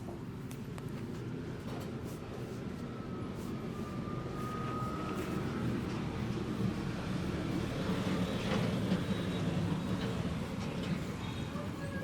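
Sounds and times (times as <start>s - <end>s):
low rumble of street traffic: 0.0s - 12.0s
faint steady tone: 1.5s - 12.0s.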